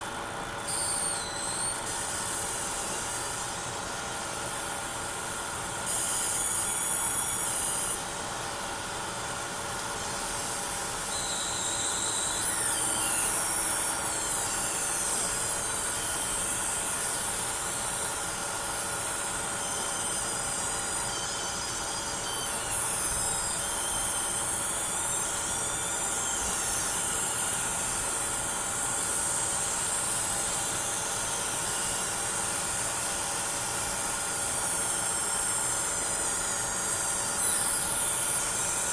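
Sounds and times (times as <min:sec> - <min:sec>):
high-pitched electrical coil whine: 0:00.0 - 0:38.9.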